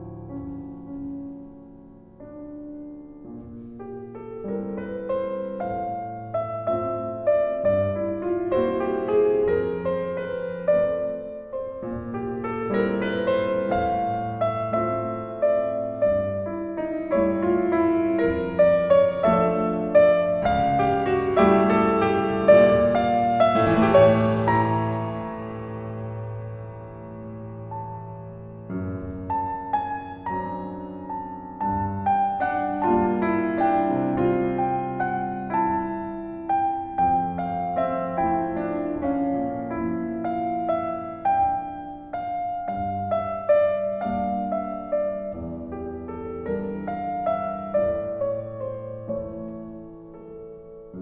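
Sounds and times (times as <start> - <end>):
gentle piano music: 0.0 - 51.0.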